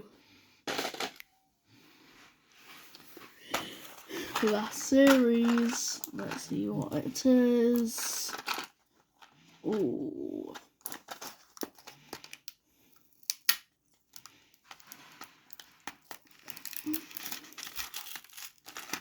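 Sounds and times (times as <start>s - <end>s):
packaging crinkling and tearing: 3.6s - 19.0s.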